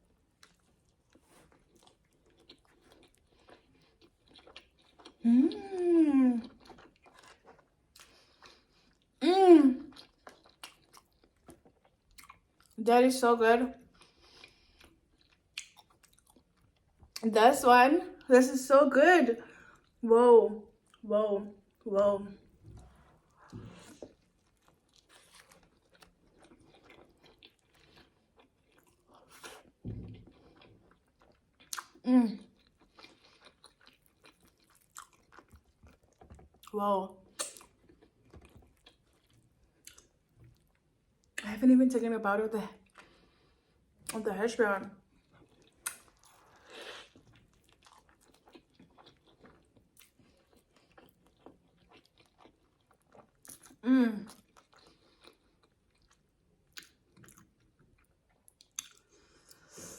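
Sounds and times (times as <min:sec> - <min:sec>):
chewing crispy food: 0:00.0 - 0:12.8, 0:13.8 - 0:17.2, 0:20.7 - 0:41.4, 0:42.7 - 0:44.2, 0:44.9 - 0:59.8.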